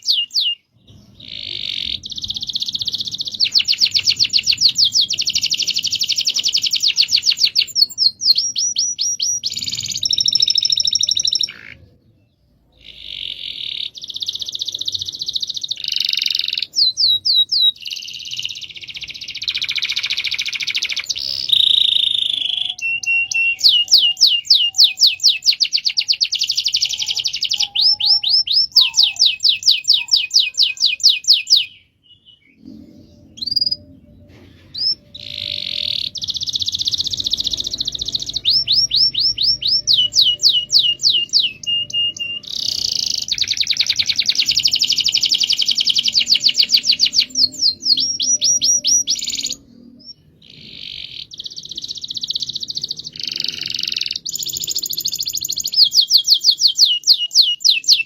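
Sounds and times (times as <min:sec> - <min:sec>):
canary singing rolling trills: 0:00.0 - 0:58.0.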